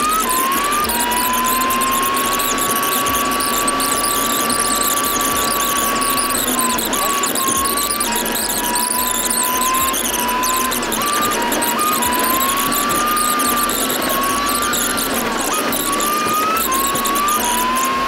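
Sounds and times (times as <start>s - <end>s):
engine and road noise: 0.0s - 18.0s
truck drivetrain whine: 0.0s - 18.0s.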